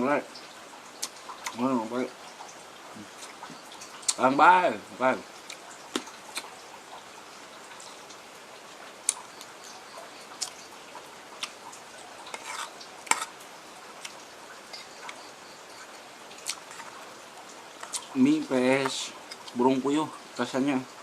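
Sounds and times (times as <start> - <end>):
faint hiss: 0.0 - 21.0.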